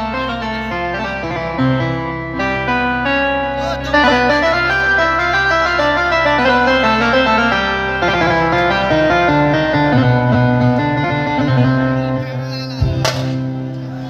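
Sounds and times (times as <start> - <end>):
amplified plucked-string melody: 0.0 - 14.0.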